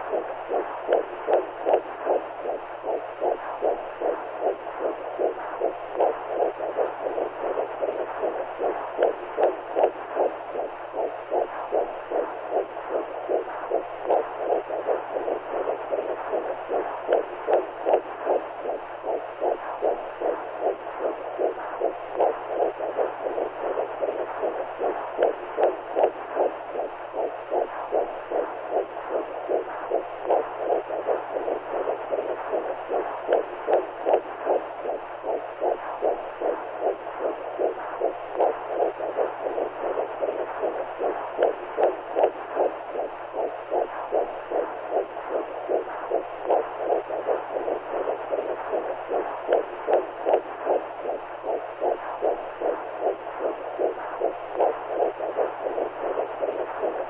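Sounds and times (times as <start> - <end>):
heartbeat-like whooshing pulse: 0.0 - 57.0.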